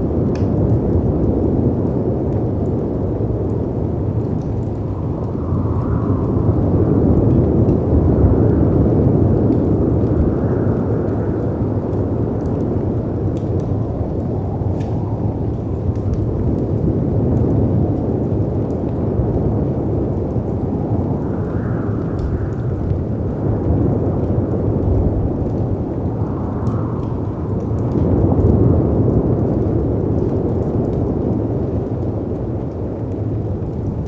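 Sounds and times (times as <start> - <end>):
faint wood fire crackles: 0.0 - 34.0
wind: 0.0 - 34.0
sea waves rumbling: 3.7 - 34.0.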